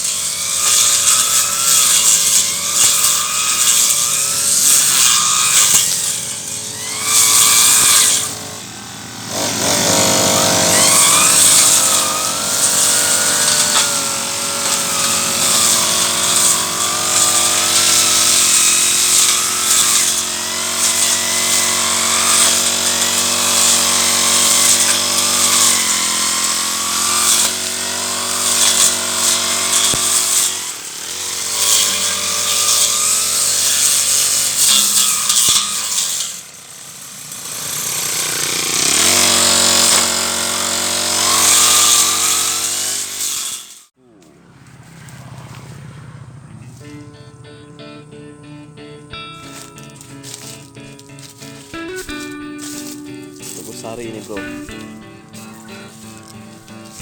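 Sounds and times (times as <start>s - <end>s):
brush cutter engine revving: 0.0s - 57.0s.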